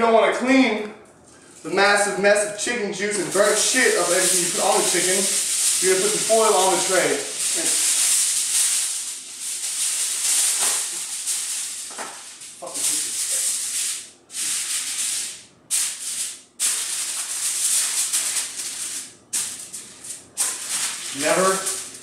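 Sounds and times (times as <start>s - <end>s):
aluminium foil crinkling: 3.2s - 22.0s.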